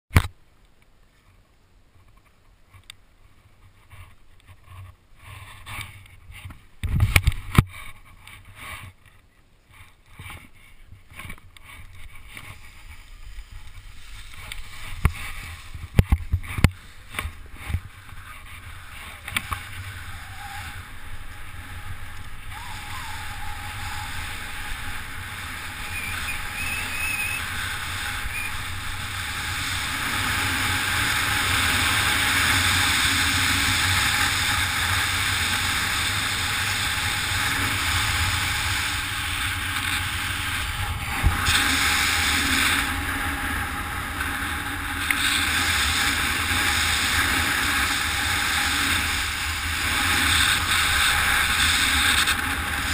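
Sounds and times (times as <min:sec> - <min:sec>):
wind rushing over camera: 0:01.9 - 0:52.9.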